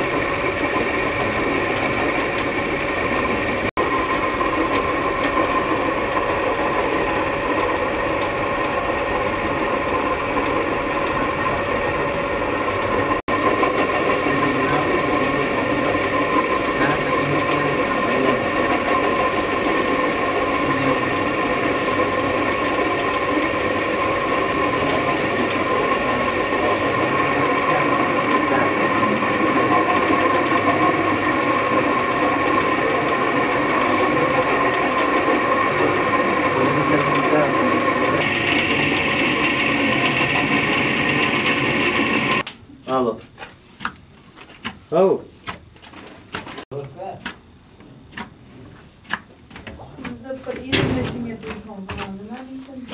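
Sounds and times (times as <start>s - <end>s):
machine humming and whining: 0.0s - 44.3s.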